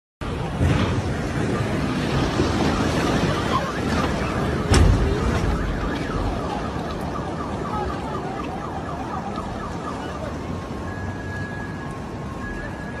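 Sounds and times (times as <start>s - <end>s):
steady background rush: 0.2s - 13.0s
siren warbling: 1.3s - 13.0s.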